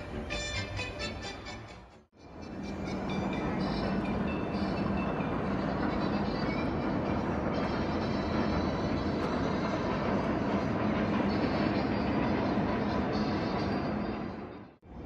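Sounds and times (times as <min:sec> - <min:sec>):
roller coaster rumbling and rattling: 0:00.0 - 0:15.0.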